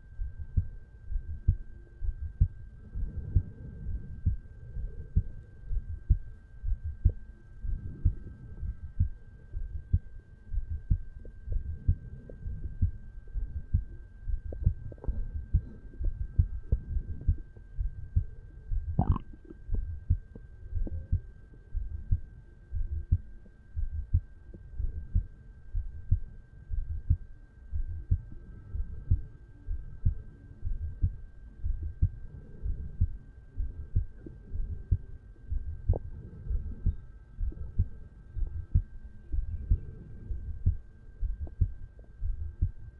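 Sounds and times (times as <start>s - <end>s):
heartbeat thumps: 0.2s - 42.9s.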